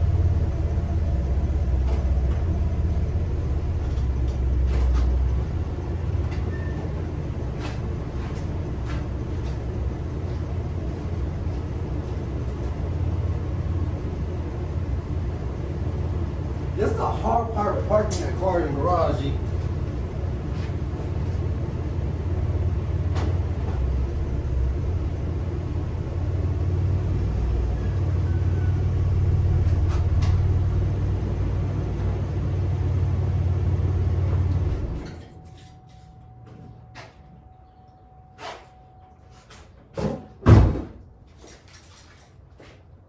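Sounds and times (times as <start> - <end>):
car engine rumbling: 0.0 - 43.0.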